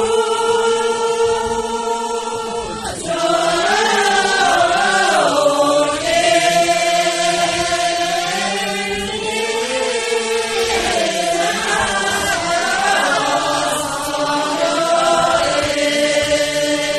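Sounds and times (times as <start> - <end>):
group singing in unison: 0.0 - 16.9.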